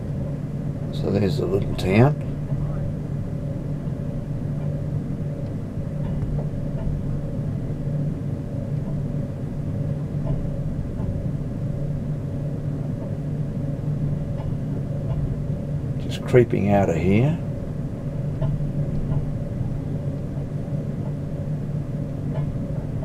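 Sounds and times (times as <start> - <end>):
train carriage rumble and hum: 0.0 - 23.0.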